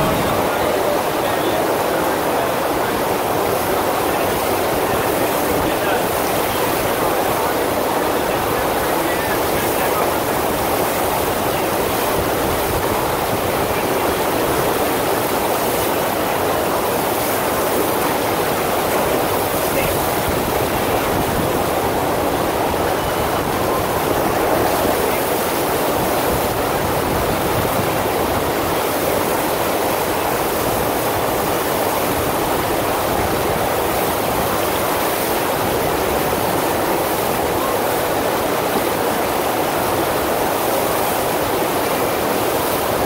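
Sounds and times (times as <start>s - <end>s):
rushing water: 0.0s - 43.0s.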